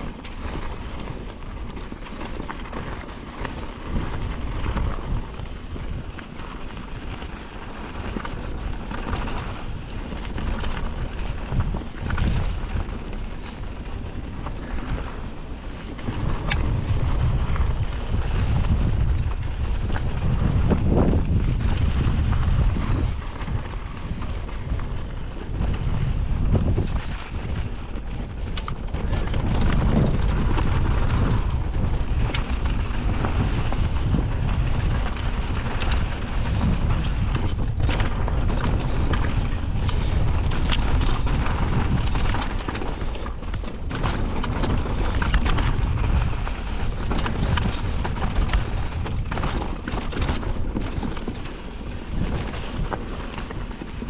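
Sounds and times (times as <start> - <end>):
mountain bike rattling: 0.0 - 54.0
wind on microphone: 0.0 - 54.0.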